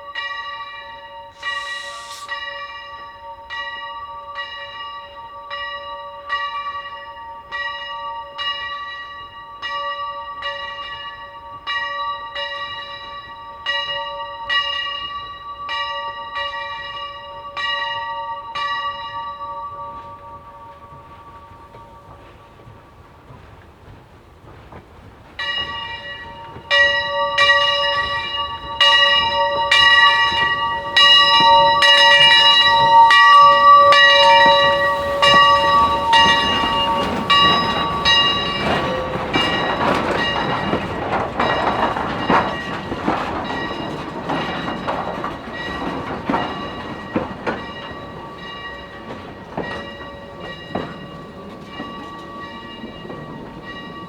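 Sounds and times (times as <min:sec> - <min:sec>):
steam locomotive bell ringing: 0:00.0 - 0:24.4, 0:25.3 - 0:54.0
train rumble: 0:00.0 - 0:54.0.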